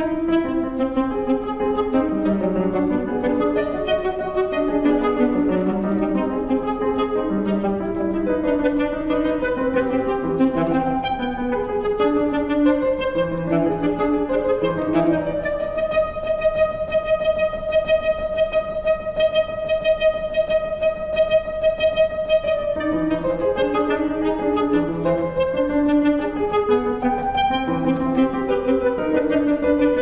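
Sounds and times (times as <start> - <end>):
alto saxophone: 0.0 - 30.0
piano notes: 0.0 - 30.0.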